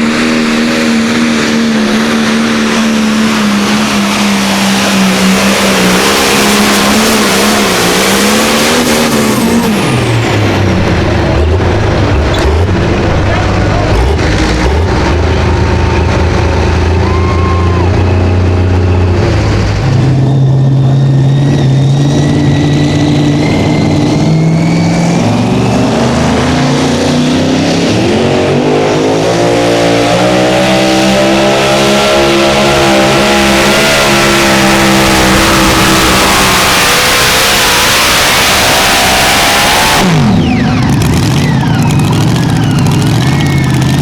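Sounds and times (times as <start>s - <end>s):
pulling engine at full throttle: 0.0s - 44.0s.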